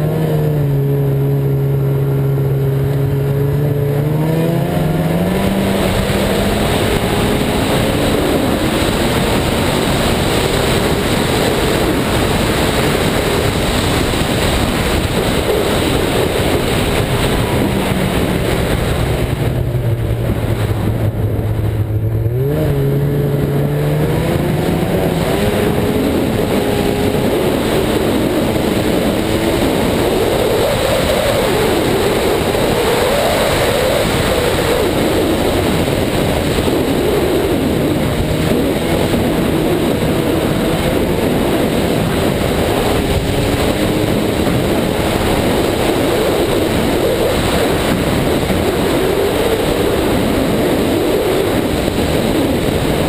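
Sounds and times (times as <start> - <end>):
snowmobile engine revving: 0.0 - 53.0
steady rushing noise: 0.0 - 53.0.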